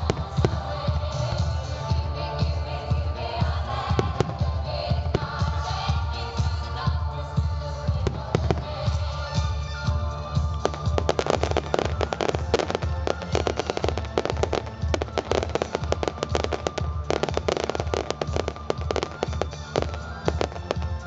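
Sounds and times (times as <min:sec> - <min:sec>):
fireworks popping and banging: 0:00.0 - 0:01.7, 0:03.9 - 0:06.6, 0:07.8 - 0:21.0
music with pulsing low beat: 0:00.0 - 0:21.0.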